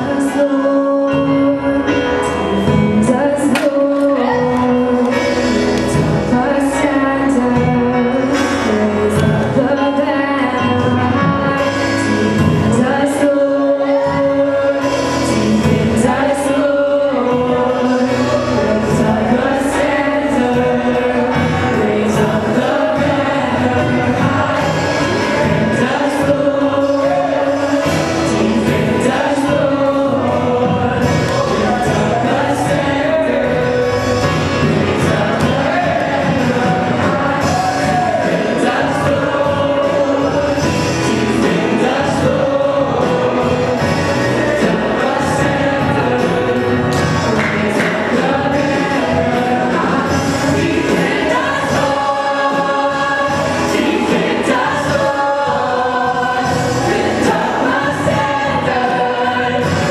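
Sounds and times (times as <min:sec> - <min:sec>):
choir singing gospel: 0:00.0 - 0:59.9
instrumental accompaniment with percussion: 0:00.0 - 0:59.9
woman lead singing: 0:00.0 - 0:59.9.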